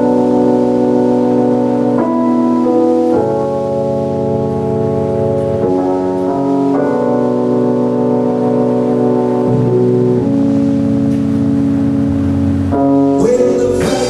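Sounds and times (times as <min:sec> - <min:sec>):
electronic keyboard organ chords: 0:00.0 - 0:14.0.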